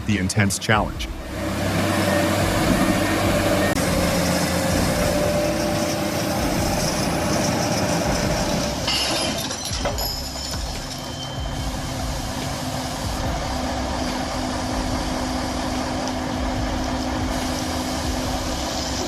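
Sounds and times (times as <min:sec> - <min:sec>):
heavy vehicle engine droning: 0:00.0 - 0:19.0.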